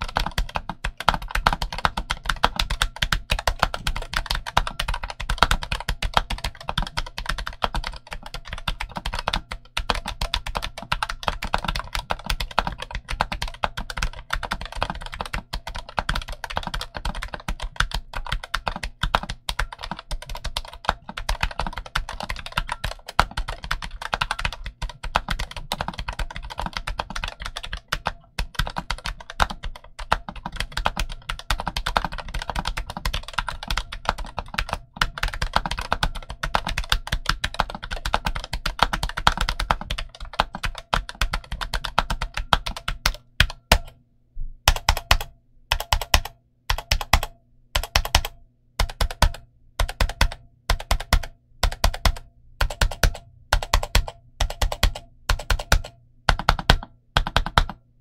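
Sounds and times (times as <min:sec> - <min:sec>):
mechanical keyboard typing: 0:00.0 - 0:44.0, 0:44.7 - 0:57.8.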